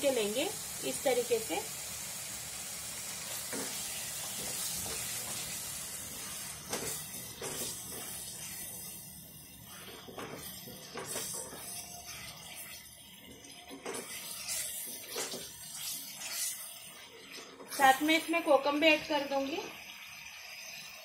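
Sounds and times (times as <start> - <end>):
paste sizzling in a pan: 0.0 - 21.0.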